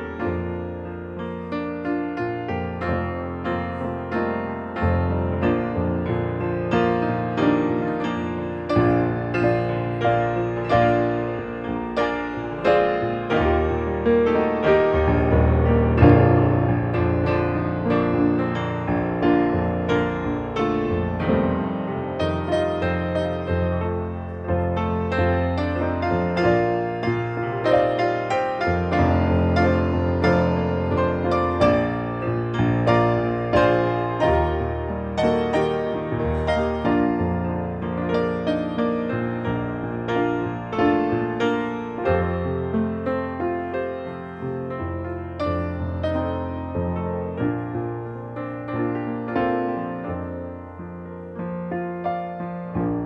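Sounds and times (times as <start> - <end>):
piano chords over bass line: 0.0 - 53.0.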